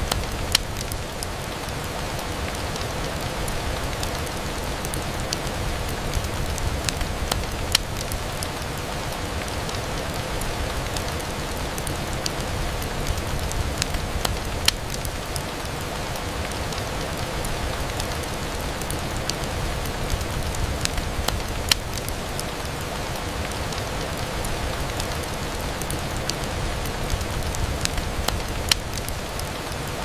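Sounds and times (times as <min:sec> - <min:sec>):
rain on a window: 0:00.0 - 0:30.0
sharp ticks and pops: 0:00.1 - 0:08.8, 0:09.4 - 0:17.3, 0:17.9 - 0:24.3, 0:24.9 - 0:30.0.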